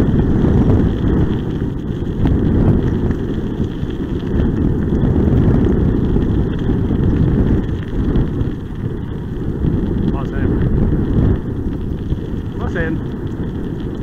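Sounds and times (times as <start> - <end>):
tyres rolling on gravel: 0.0 - 14.0
wind buffeting microphone: 0.0 - 14.0.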